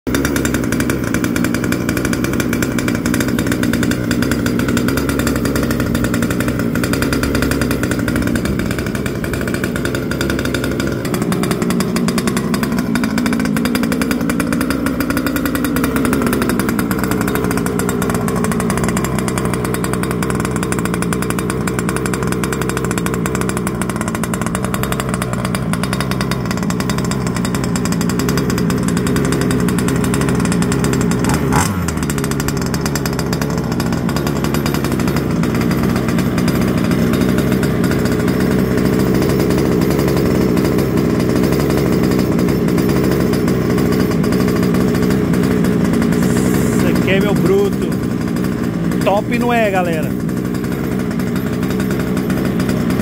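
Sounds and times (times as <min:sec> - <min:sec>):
small two-stroke engine running: 0:00.1 - 0:53.0.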